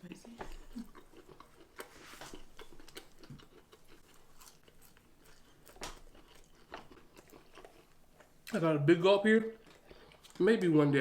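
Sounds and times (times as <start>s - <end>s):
person chewing fried food: 0.3s - 8.5s, 9.5s - 10.4s.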